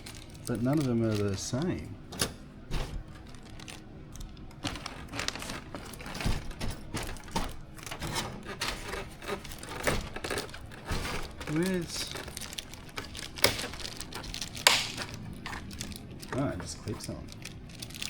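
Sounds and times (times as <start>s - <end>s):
plastic parts clicking together: 0.0s - 2.4s, 3.2s - 18.0s
plastic packaging rustling: 0.0s - 18.0s.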